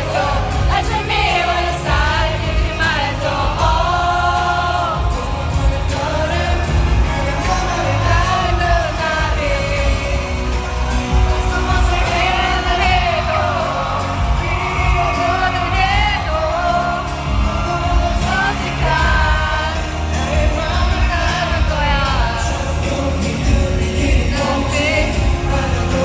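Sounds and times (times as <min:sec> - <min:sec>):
amplified backing track with bass: 0:00.0 - 0:26.0
live pop singing: 0:00.0 - 0:26.0.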